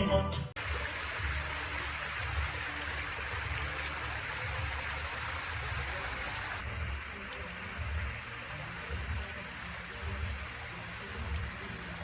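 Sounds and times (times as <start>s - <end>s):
waterfall rushing: 0.6s - 12.0s.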